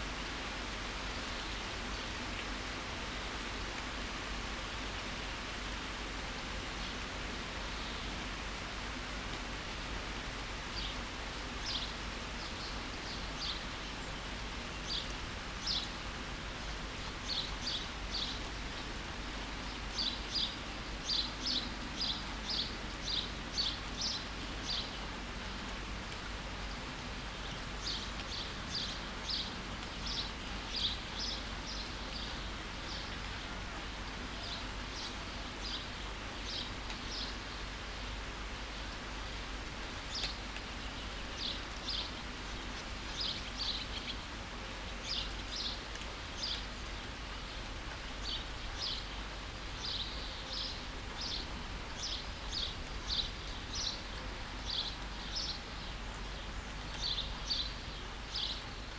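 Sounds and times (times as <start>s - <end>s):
rain hiss: 0.0s - 58.9s.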